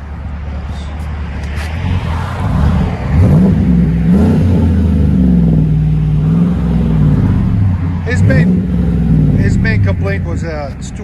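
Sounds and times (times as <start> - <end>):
car engine revving: 0.8 - 11.0.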